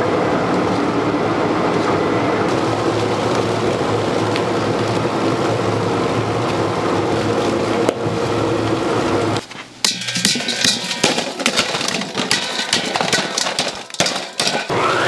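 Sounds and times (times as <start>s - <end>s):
machine humming and clattering: 0.0s - 15.0s.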